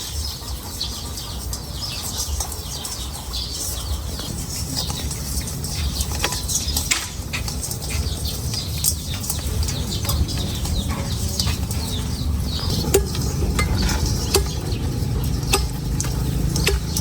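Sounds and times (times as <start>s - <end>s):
metal utensil scraping in pan: 0.0s - 17.0s.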